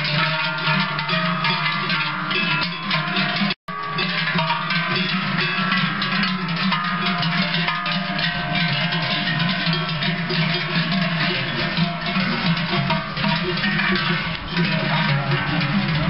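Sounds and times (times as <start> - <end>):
cowbells clanging: 0.0 - 16.0.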